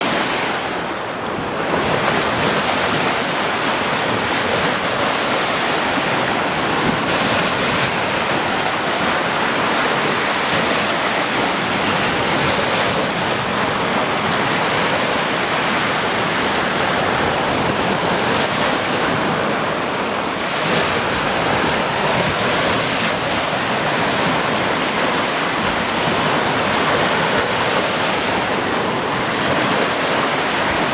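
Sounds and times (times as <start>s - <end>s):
sea waves washing onto shore: 0.0s - 30.9s.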